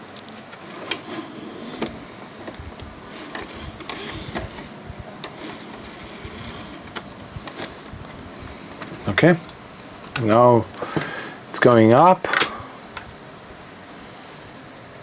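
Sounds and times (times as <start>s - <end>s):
disc drive clicks: 0.0s - 13.8s
disc drive motor whirring: 0.0s - 15.0s.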